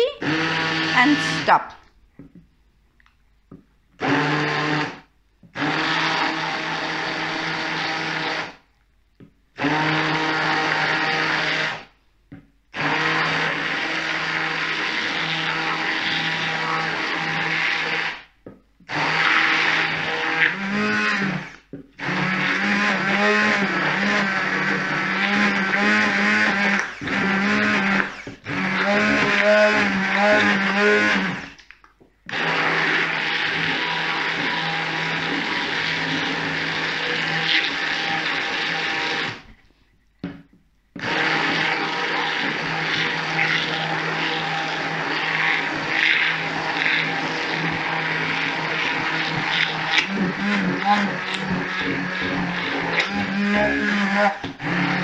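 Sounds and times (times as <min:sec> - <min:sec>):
immersion blender motor running: 0:00.0 - 0:01.6, 0:04.0 - 0:08.6, 0:09.6 - 0:11.9, 0:12.8 - 0:18.3, 0:18.9 - 0:31.6, 0:32.3 - 0:39.4, 0:41.0 - 0:55.0.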